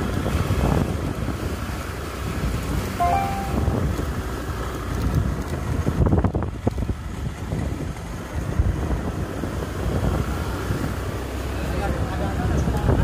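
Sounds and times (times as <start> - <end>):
wind buffeting microphone: 0.0 - 2.9, 3.6 - 11.2, 11.9 - 13.0
vehicle running: 0.0 - 13.0.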